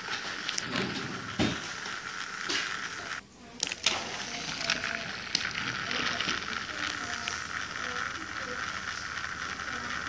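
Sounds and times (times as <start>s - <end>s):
toy train motor whirr: 0.0s - 10.0s.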